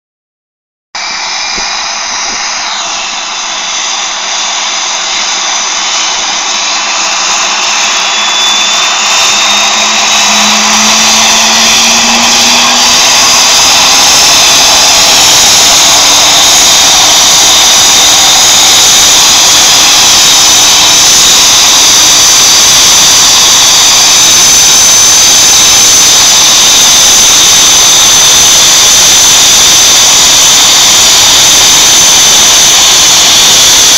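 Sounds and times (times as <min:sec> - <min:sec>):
helicopter turbine engine whining: 0:01.0 - 0:33.9.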